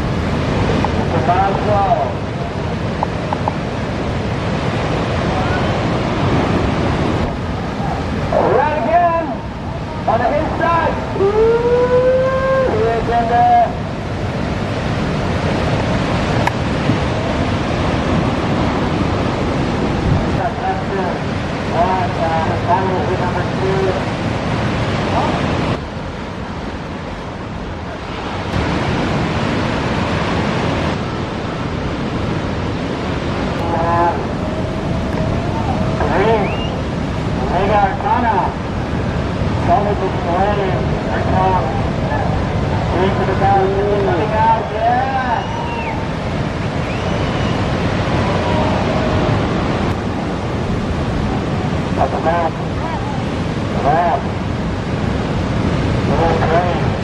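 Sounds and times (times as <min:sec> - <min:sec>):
ocean surf breaking: 0:00.0 - 0:57.0
wind noise on microphone: 0:00.0 - 0:57.0.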